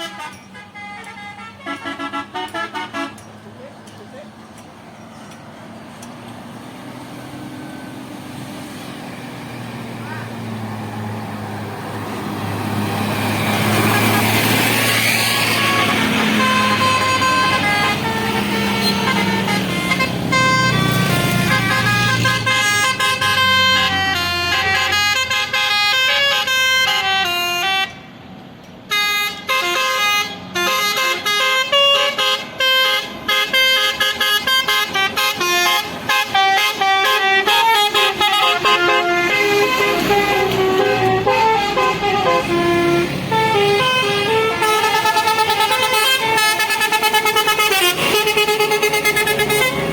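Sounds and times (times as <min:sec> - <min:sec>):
multi-tone bus horn tune: 0:00.0 - 0:03.3, 0:12.2 - 0:28.1, 0:28.8 - 0:49.9
bus engine rumbling: 0:00.0 - 0:49.9.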